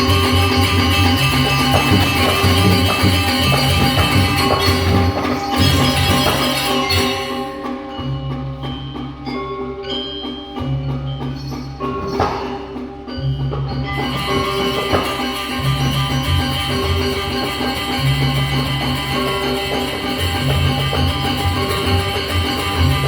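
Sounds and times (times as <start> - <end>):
plucked bell-like melody: 0.0 - 23.0.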